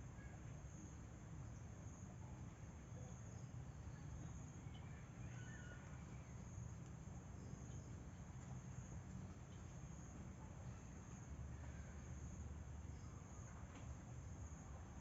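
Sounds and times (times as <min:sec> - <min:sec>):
insects droning: 0:00.1 - 0:15.0.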